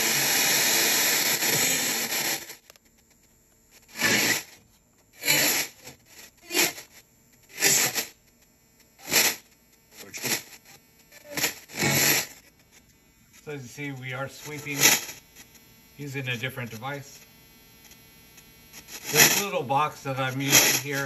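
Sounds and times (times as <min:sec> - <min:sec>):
short bursts of radio sound: 0:00.0 - 0:02.7, 0:03.8 - 0:08.2, 0:09.0 - 0:21.0
radio static hiss: 0:00.0 - 0:21.0.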